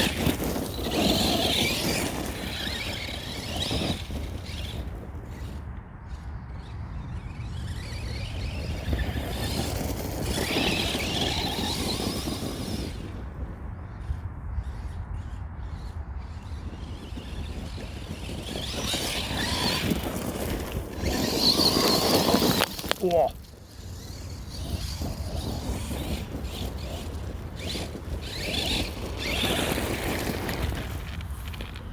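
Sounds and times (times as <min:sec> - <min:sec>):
tyres crunching on gravel: 0:00.0 - 0:05.6, 0:07.5 - 0:13.6, 0:16.8 - 0:31.9
electric motor whine: 0:00.0 - 0:31.9
wind rumble on microphone: 0:00.0 - 0:31.9.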